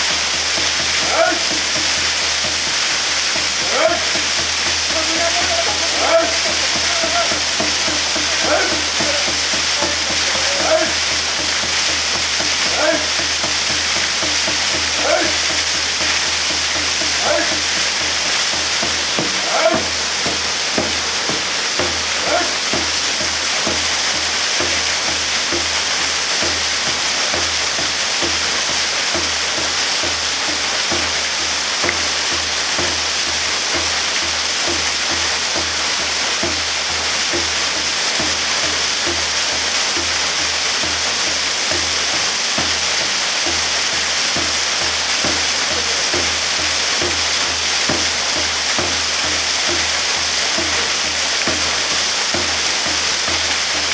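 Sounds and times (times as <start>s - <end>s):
low rhythmic beat: 0.0s - 53.9s
waterfall pouring: 0.0s - 53.9s.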